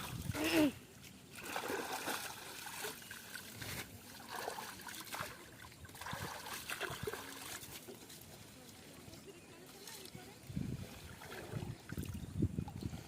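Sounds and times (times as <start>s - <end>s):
river water trickling and sloshing: 0.0s - 13.0s.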